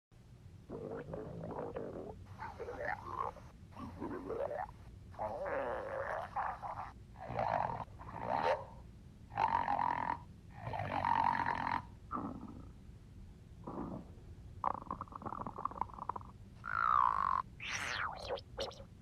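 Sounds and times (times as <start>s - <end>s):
stomach growling: 0.7s - 8.5s, 9.4s - 12.8s, 13.6s - 18.9s.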